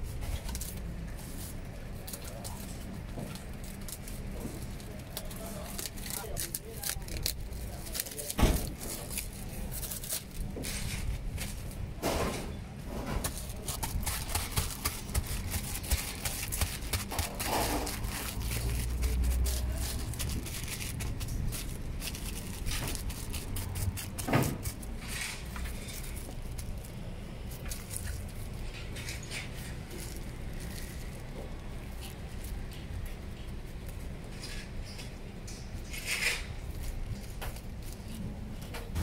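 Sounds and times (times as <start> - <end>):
plastic glove crinkling: 0.0 - 11.9, 13.2 - 38.8
fruit fibres crackling and tearing: 0.0 - 12.0, 12.8 - 39.0.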